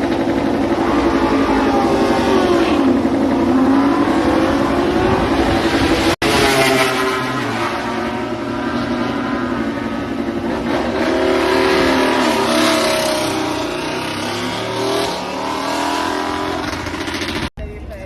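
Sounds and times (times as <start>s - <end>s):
racing motorcycle engines revving: 0.0s - 17.5s.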